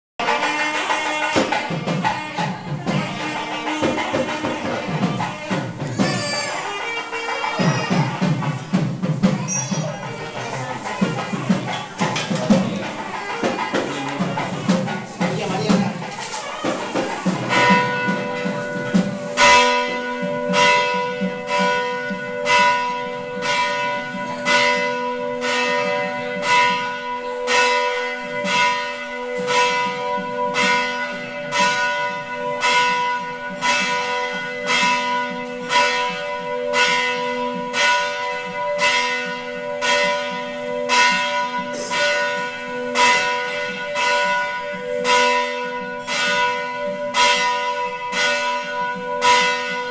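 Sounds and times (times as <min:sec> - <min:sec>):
temple bell ringing: 0:00.2 - 0:49.9.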